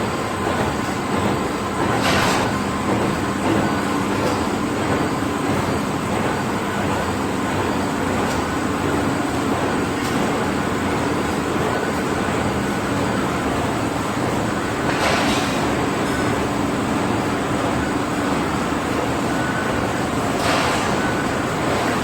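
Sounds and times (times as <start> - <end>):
machine clacks: 0.3 - 22.0.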